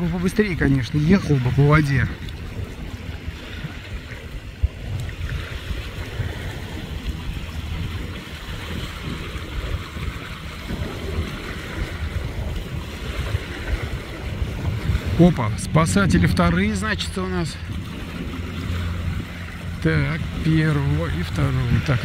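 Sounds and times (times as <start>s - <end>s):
choppy water hissing: 0.0s - 22.0s
wind buffeting microphone: 0.0s - 22.0s.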